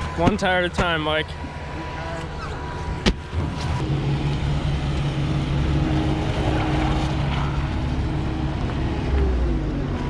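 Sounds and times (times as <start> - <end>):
heavy farm machinery engine humming: 0.0 - 10.0.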